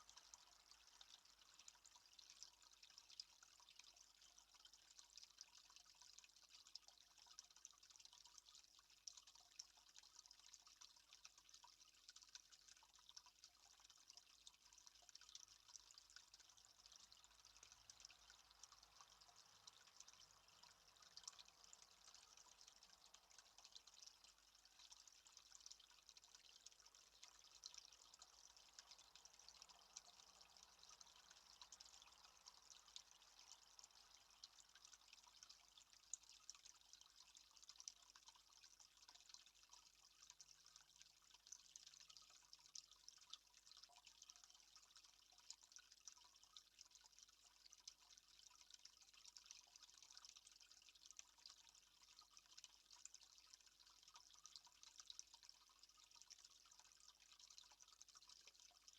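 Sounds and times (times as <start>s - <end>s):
faint trickle of water: 0.0s - 58.9s.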